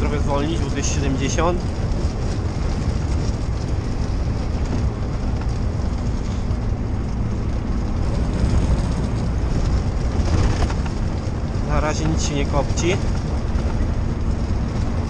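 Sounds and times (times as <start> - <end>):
truck engine and tyre rumble: 0.0 - 15.0.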